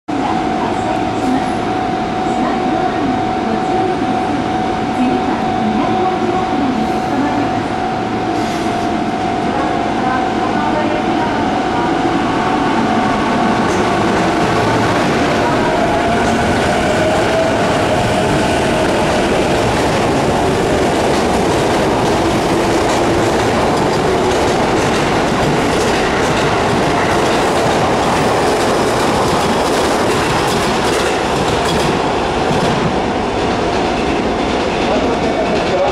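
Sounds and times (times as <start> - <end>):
electric train passing: 0.1 - 35.9.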